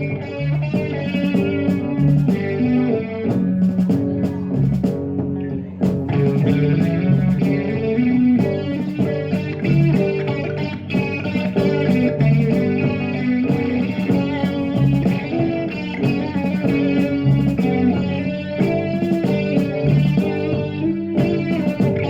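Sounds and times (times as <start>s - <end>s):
bass guitar: 0.0s - 22.0s
electric guitar: 0.0s - 22.0s.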